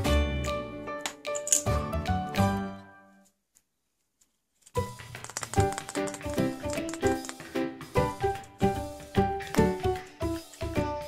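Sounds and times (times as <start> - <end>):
background music melody: 0.0 - 3.4, 4.7 - 11.0.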